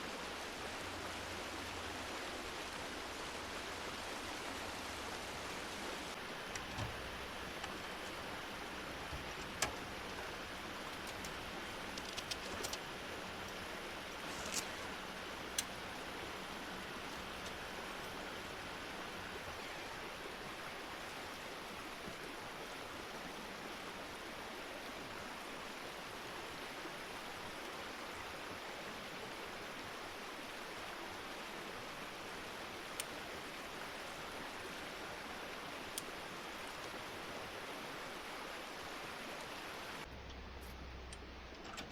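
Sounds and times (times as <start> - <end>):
river flowing: 0.0 - 40.1.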